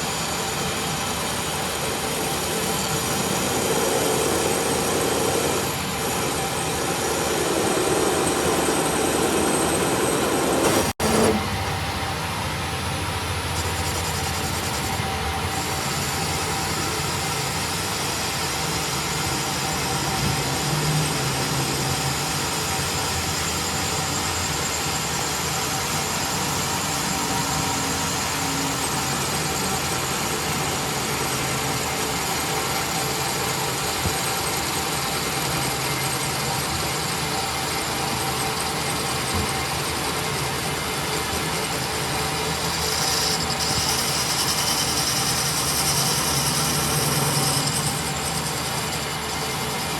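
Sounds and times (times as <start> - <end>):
machine running: 0.0 - 49.9.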